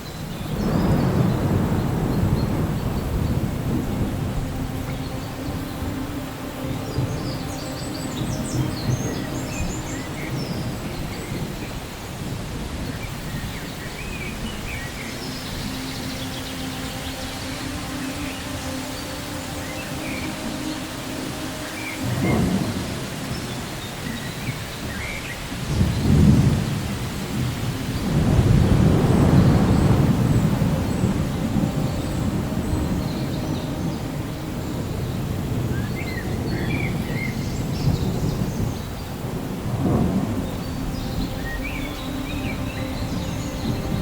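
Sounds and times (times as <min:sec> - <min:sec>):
steady rain: 0:00.0 - 0:44.0
thunder rumbling: 0:00.0 - 0:44.0.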